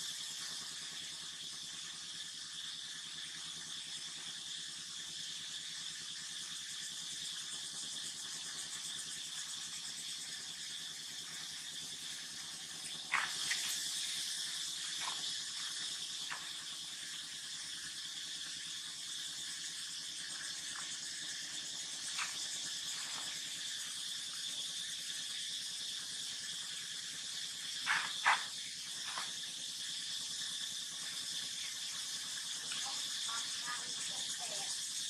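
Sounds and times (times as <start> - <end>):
insect chorus buzzing: 0.0 - 35.0.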